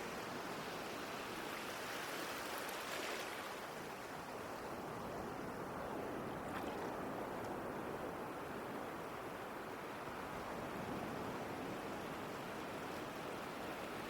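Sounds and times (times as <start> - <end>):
ocean waves washing on shore: 0.0 - 14.0.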